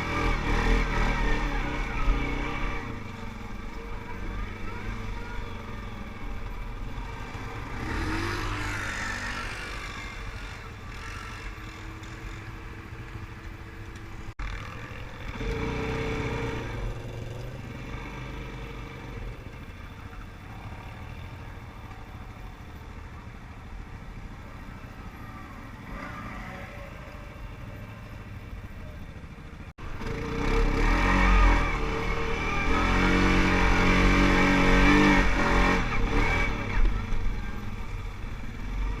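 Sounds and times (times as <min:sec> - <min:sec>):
quad bike engines revving: 0:00.0 - 0:39.0.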